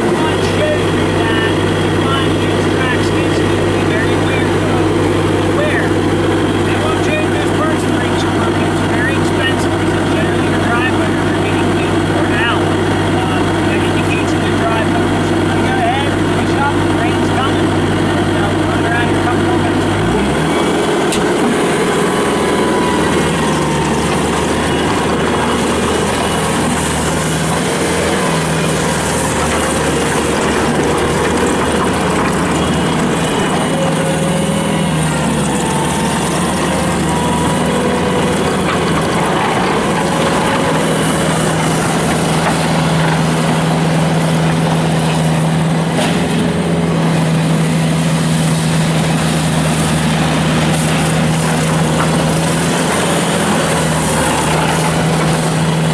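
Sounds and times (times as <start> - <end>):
diesel engine running steadily: 0.0 - 55.9.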